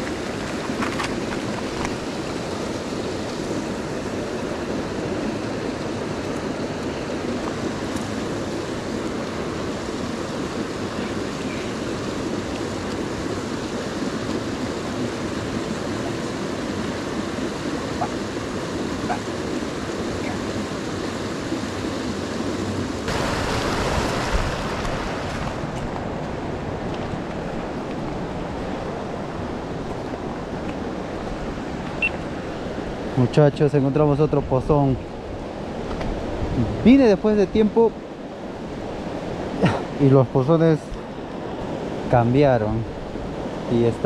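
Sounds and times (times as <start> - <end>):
stream water running over stones: 0.0 - 44.0.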